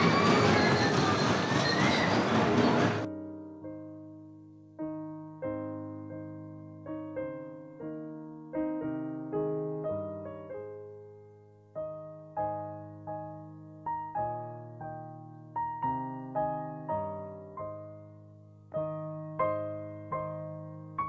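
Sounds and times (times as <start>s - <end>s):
slow solo piano: 3.0s - 21.0s.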